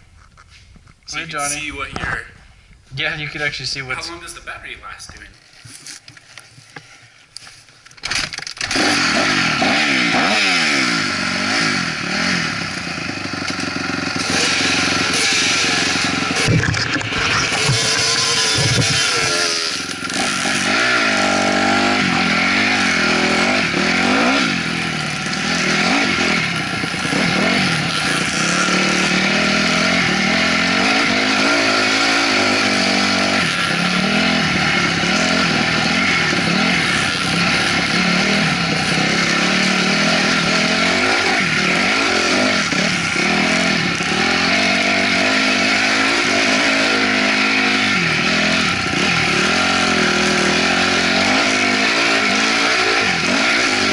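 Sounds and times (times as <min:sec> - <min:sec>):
dirt bike engine revving: 0:08.0 - 0:53.9.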